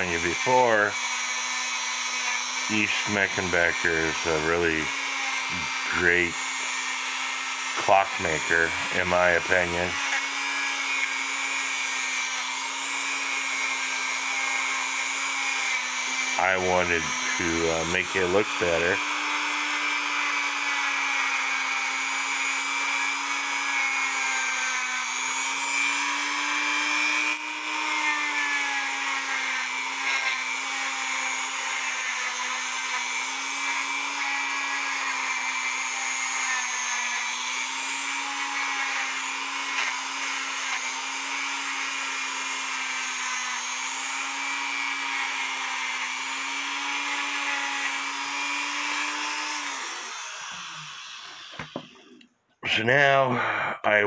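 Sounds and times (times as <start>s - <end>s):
rotary tool motor humming: 0.0s - 52.3s.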